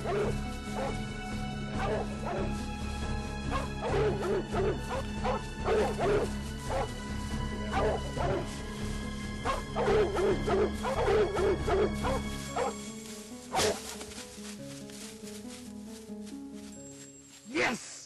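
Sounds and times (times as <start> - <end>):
background music with held tones: 0.0 - 17.5.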